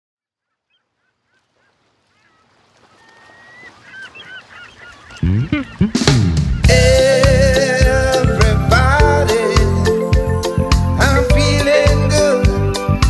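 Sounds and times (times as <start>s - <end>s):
birds calling: 0.4s - 13.0s.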